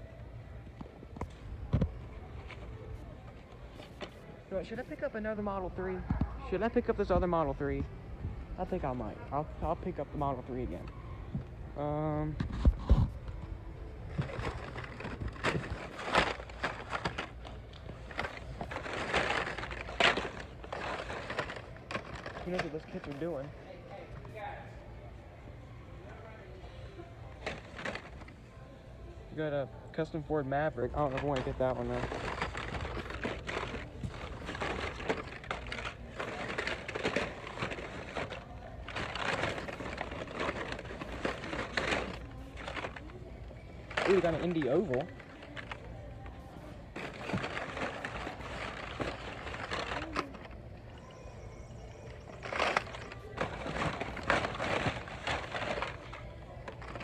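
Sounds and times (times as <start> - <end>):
packages rustling and clacking: 0.7 - 7.9, 8.6 - 24.5, 26.6 - 28.4, 29.6 - 57.0.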